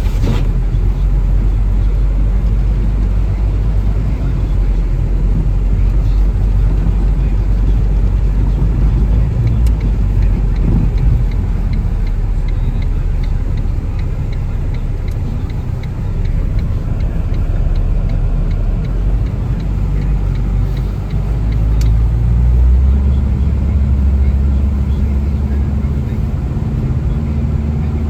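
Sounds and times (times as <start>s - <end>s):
car engine and tyres on snow: 0.0s - 28.0s
light ticking: 0.9s - 27.3s.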